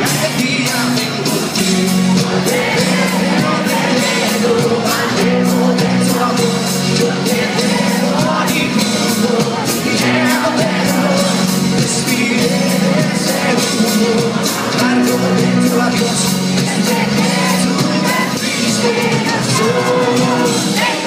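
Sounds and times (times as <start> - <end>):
drum beat: 0.0 - 21.0
live pop-rock band: 0.0 - 21.0
person singing: 0.0 - 21.0.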